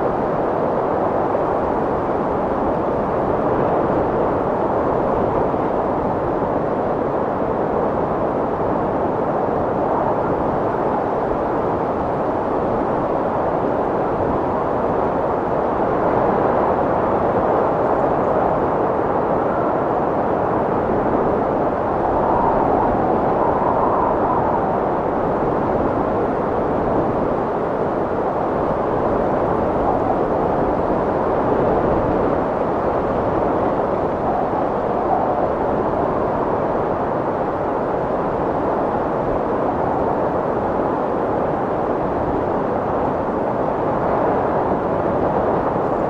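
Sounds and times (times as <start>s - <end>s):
strong wind blowing: 0.0s - 46.0s.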